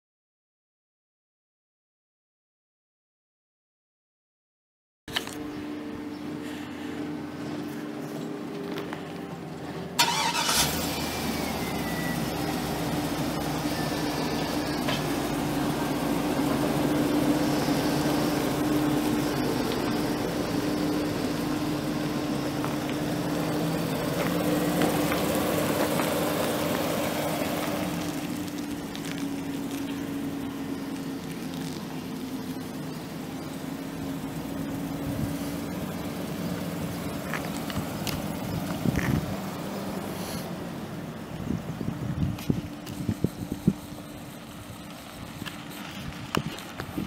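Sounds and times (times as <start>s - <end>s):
truck engine starting and idling: 5.2s - 47.0s.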